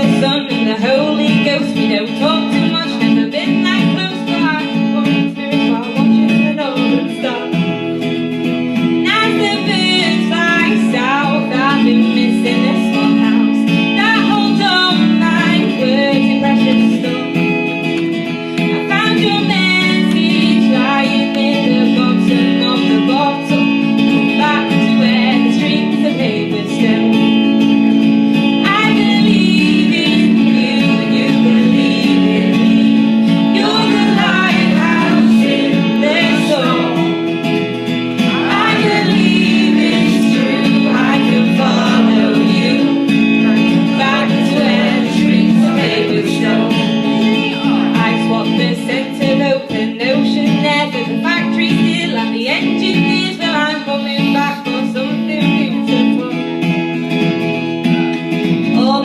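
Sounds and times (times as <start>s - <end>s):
woman singing: 0.0s - 7.9s, 8.7s - 56.6s, 58.4s - 59.0s
guitar: 0.0s - 59.0s.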